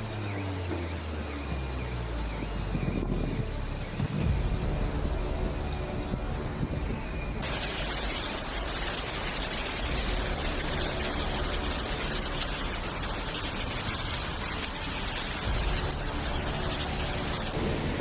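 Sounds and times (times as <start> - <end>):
storm water rushing: 0.0 - 18.0.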